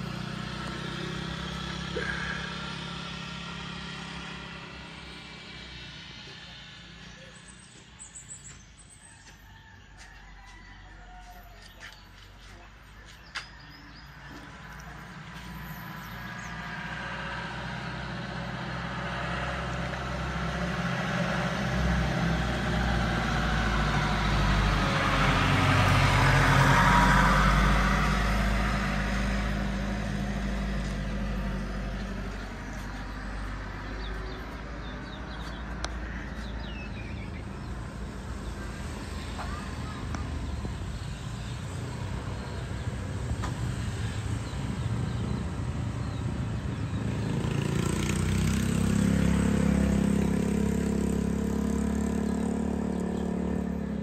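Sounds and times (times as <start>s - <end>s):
truck passing: 0.0s - 54.0s
vehicle engine noise: 0.0s - 54.0s.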